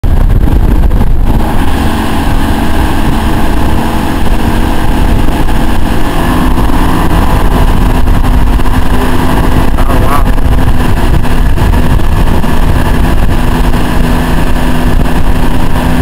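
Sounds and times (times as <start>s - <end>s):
motorboat engine humming: 0.0s - 16.0s
rush of boat wake: 0.0s - 16.0s
wind buffeting microphone: 0.0s - 16.0s.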